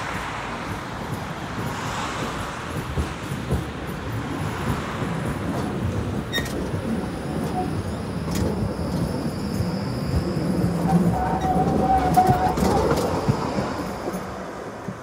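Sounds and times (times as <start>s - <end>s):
road traffic: 0.0s - 15.0s
tram rumbling: 0.0s - 15.0s.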